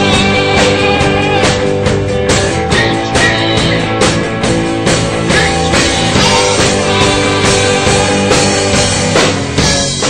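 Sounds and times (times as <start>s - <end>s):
drum kit steady beat: 0.0s - 10.0s
electric guitars: 0.0s - 10.0s.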